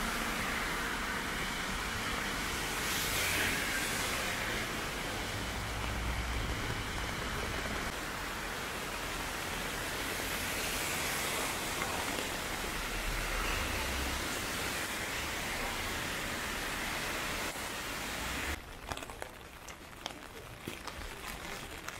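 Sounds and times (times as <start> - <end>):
heavy rain on pavement: 0.0 - 21.9.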